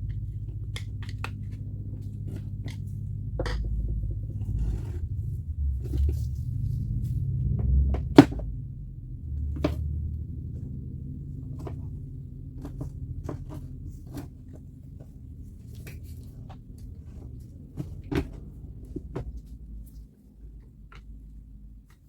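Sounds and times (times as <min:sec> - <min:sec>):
low rumble: 0:00.0 - 0:21.9.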